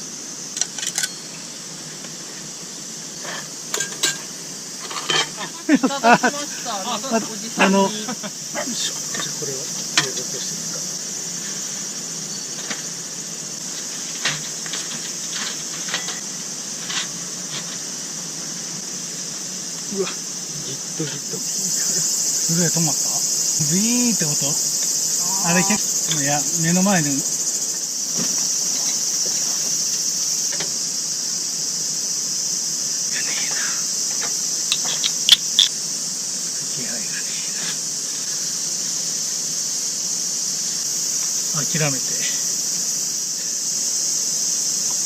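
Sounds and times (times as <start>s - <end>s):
insect chorus trilling: 0.0s - 45.0s.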